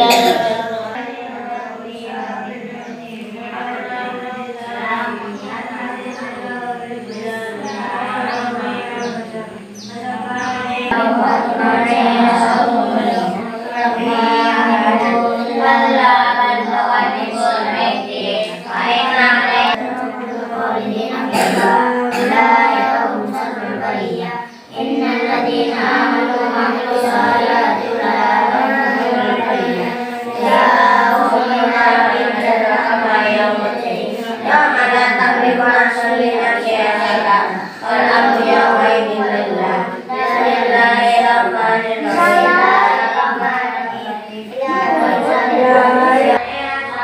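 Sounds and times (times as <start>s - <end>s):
children chanting recitation: 0.0s - 47.0s.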